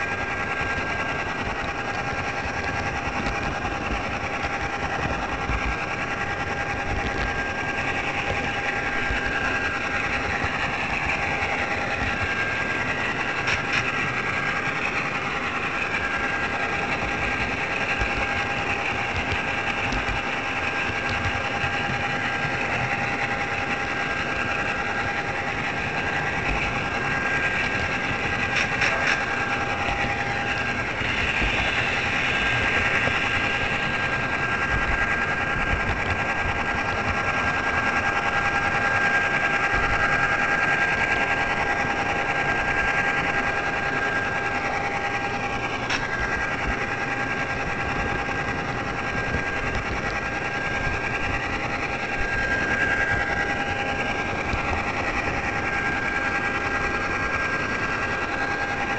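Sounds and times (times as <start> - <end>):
small motor whine: 0.0 - 58.9
wheels rumbling on rails: 0.0 - 58.9.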